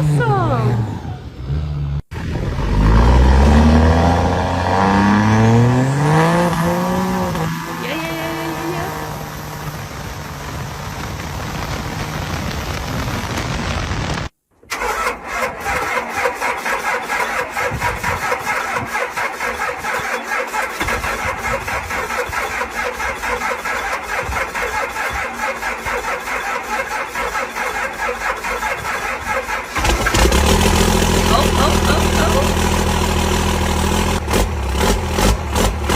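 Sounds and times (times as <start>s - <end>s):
diesel truck engine through loud exhaust: 0.0s - 14.2s, 15.6s - 35.9s.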